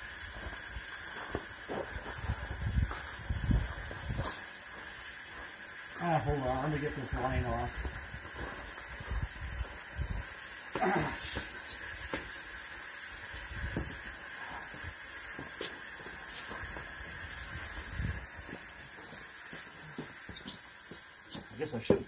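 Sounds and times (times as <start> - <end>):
blowtorch burner hissing: 0.0 - 22.0.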